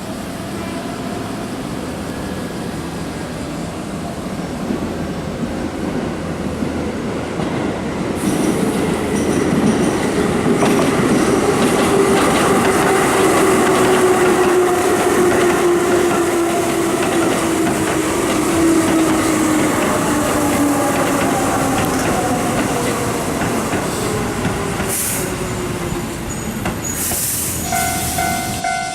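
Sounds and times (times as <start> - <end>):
train wheels clicking over rails: 4.6 - 28.6.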